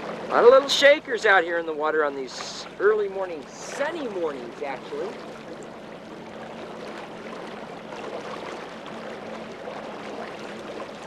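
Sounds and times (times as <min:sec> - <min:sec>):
faint boat motor hum: 0:00.0 - 0:11.0
water rushing around boat: 0:00.0 - 0:11.0
wind: 0:00.0 - 0:11.0.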